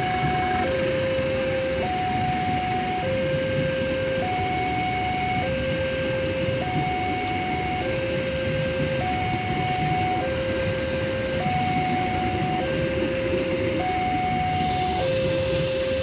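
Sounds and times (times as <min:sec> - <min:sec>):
level-crossing alarm alternating tones: 0:00.0 - 0:16.0
train coaches rumbling on rails: 0:00.0 - 0:16.0.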